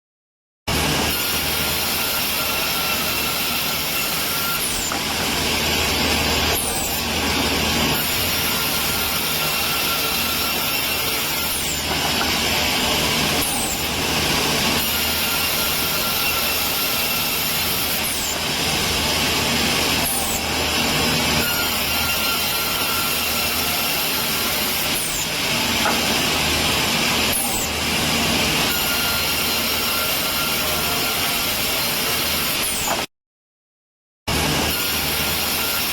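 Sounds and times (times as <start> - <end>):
woodworking machinery running: 0.7 - 33.0.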